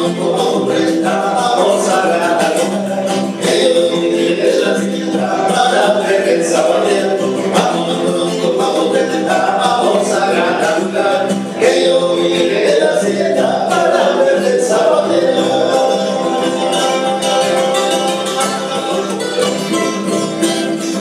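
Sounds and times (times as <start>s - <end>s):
male vocal trio singing in harmony: 0.0s - 19.8s
strummed acoustic guitars: 0.0s - 21.0s.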